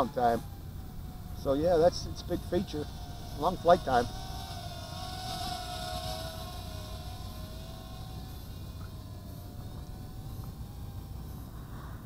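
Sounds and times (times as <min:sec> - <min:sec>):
distant quadcopter motors whining: 0:00.0 - 0:12.0
low wind rumble on microphone: 0:00.0 - 0:12.0.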